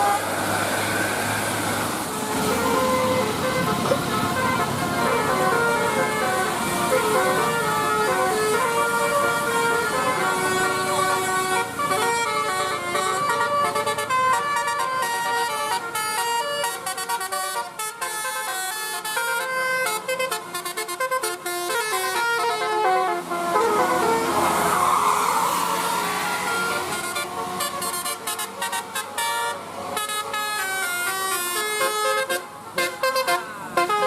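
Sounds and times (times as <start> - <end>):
bus musical horn playing tune: 0.0 - 0.5, 2.2 - 34.0.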